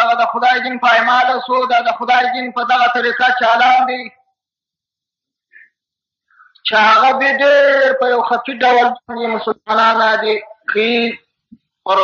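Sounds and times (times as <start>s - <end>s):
man speaking: 0.0s - 4.2s, 6.6s - 12.0s.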